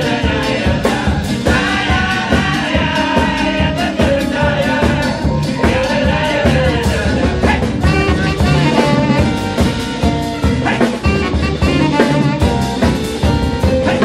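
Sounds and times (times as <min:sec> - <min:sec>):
swing band playing: 0:00.0 - 0:14.0.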